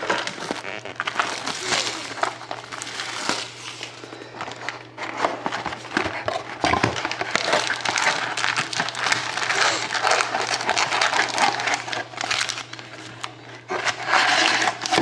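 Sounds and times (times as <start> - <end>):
plastic wrap and cardboard crinkling: 0.0 - 15.0.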